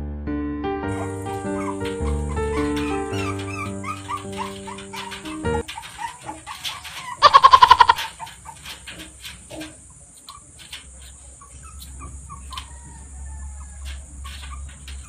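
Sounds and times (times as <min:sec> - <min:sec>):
chickens clucking: 0:00.9 - 0:15.0.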